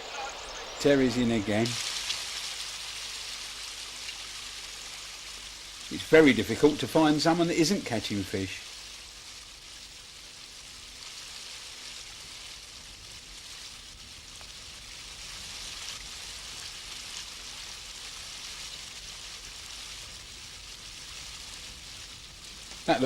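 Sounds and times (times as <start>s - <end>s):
water pouring over a weir: 1.5s - 23.0s.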